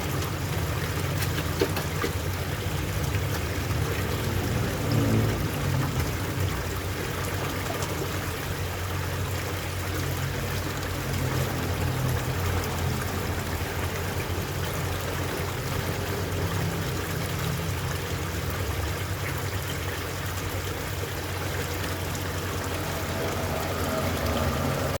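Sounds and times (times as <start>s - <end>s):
pond water trickling: 0.0s - 25.0s.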